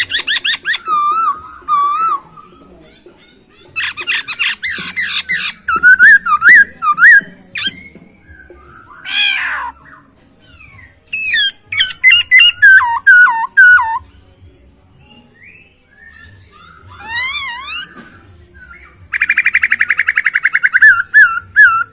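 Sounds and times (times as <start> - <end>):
bird singing with whistles: 0.0 - 2.6, 3.8 - 14.2, 15.0 - 21.9
harsh bird chattering: 0.0 - 14.0, 16.1 - 21.9.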